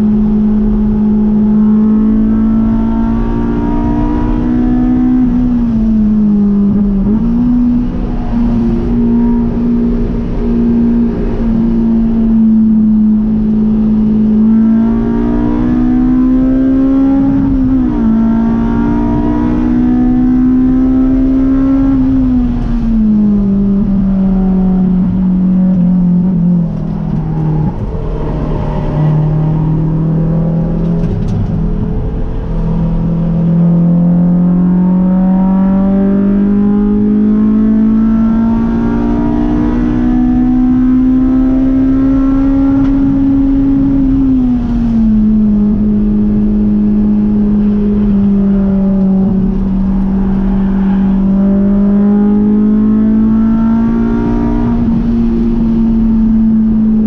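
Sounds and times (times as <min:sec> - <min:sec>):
car engine revving at full throttle: 0:00.0 - 0:57.0.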